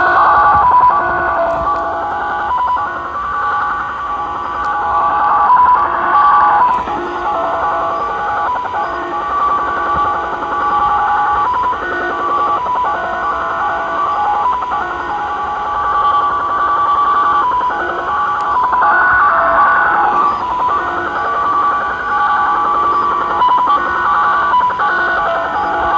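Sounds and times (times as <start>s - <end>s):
chattering multi-tone data signal: 0.0s - 25.9s
radio static hiss: 0.0s - 25.9s.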